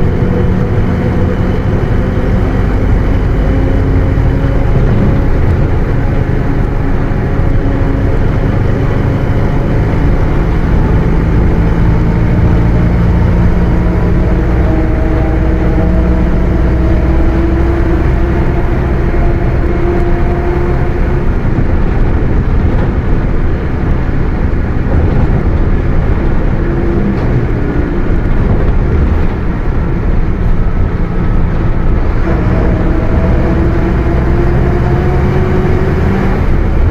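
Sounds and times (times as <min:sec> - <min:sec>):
bus diesel engine running: 0:00.0 - 0:36.9
differential whining: 0:00.0 - 0:36.9.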